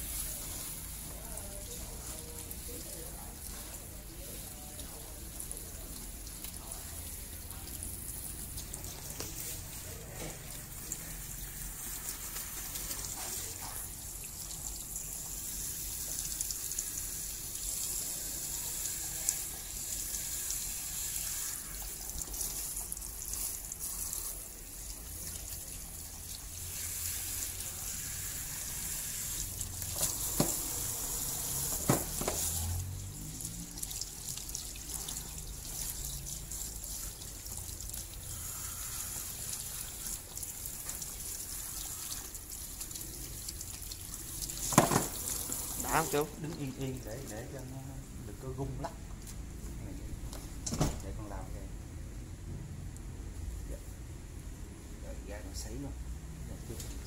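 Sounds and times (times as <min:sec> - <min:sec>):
water spraying from shower head: 0:00.0 - 0:47.6.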